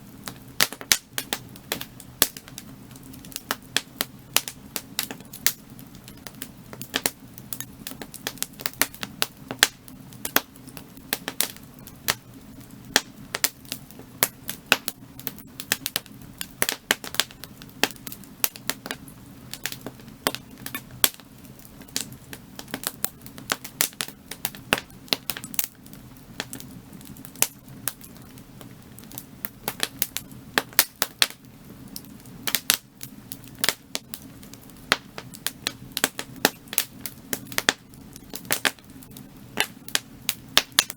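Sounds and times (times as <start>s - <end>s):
firewood crackling and popping: 0.0s - 40.9s
low rumble of fire: 0.0s - 40.9s.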